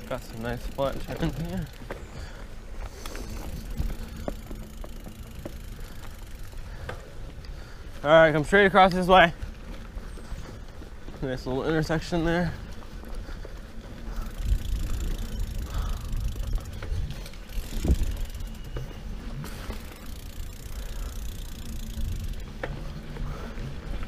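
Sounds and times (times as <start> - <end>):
bike tyres rumbling on dirt: 0.0 - 24.0.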